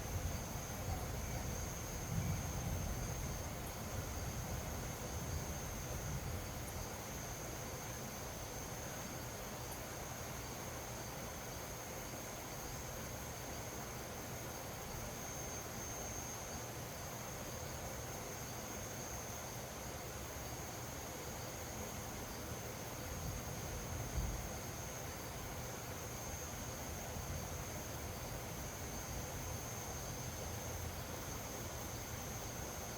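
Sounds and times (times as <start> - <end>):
crickets trilling: 0.0 - 32.9
soft background hiss: 0.0 - 32.9.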